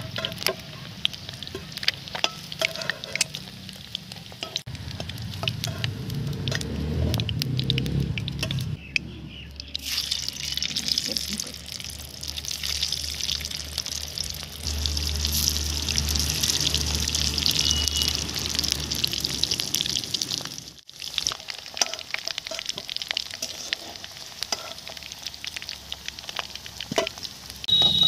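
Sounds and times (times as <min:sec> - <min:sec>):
food frying in hot oil: 0:00.0 - 0:08.8, 0:09.6 - 0:28.0.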